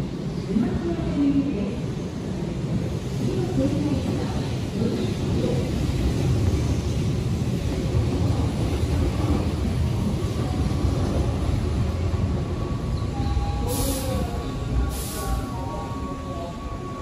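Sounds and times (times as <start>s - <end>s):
train rumbling at platform: 0.0s - 17.0s
underground station noise: 0.0s - 17.0s.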